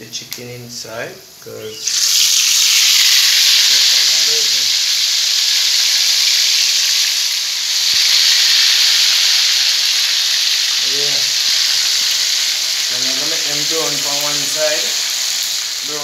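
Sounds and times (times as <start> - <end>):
chicken sizzling in hot oil: 1.7 - 16.0.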